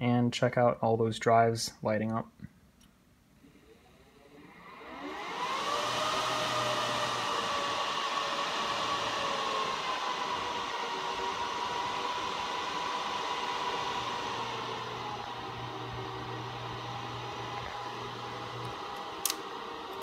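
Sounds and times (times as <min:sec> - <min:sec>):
server cooling fans whirring: 0:00.0 - 0:20.0.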